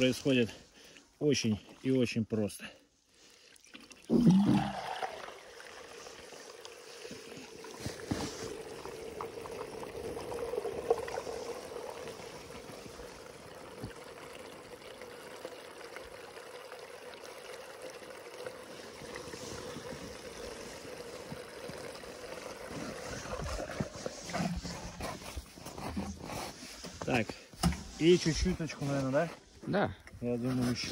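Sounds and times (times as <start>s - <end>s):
water pouring into balloon: 3.2s - 28.7s.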